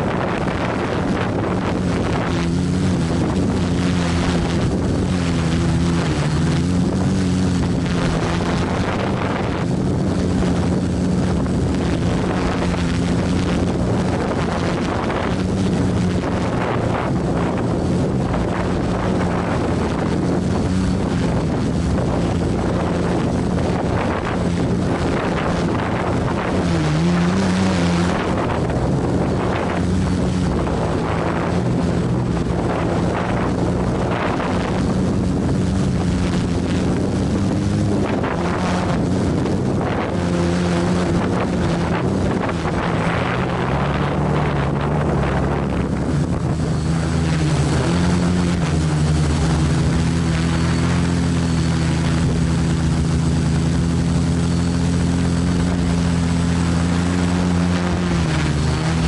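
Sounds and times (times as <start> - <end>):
drone motors humming: 0.0 - 59.0
wind buffeting microphone: 0.0 - 59.0.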